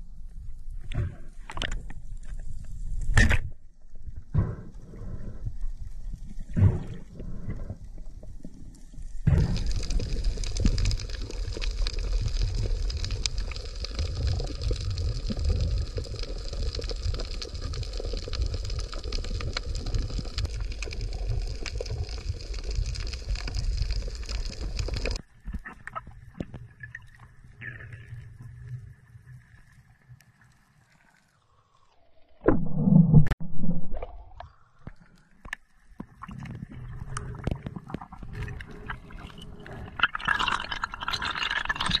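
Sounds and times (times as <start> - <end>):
underwater rumble of moving water: 0.0 - 31.4, 32.0 - 42.0
dense crackle of clicks: 5.5 - 31.8, 34.4 - 42.0.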